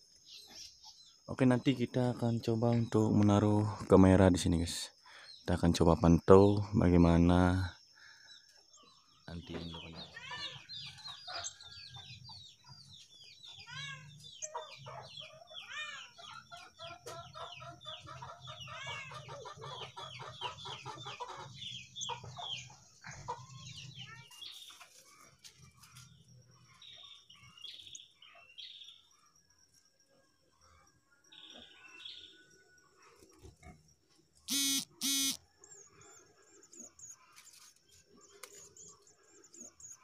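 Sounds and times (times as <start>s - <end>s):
birds chirping: 0.0s - 24.8s, 25.9s - 40.0s.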